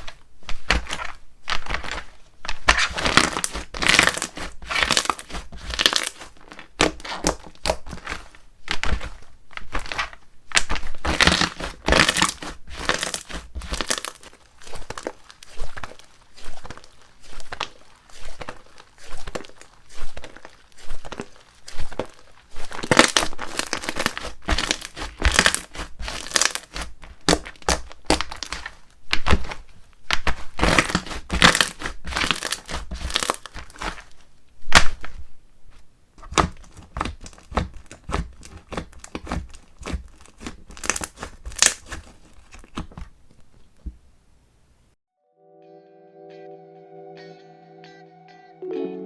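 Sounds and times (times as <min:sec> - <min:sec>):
slime squished by hand: 0:00.0 - 0:35.2, 0:36.2 - 0:43.8.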